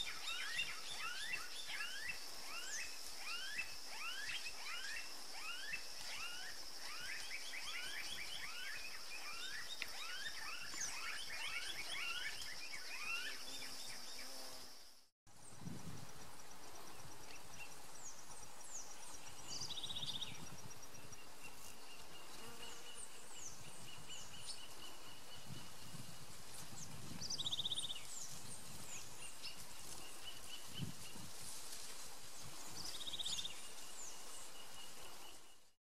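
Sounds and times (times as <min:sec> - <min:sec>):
steady high insect whine: 0:00.0 - 0:35.7.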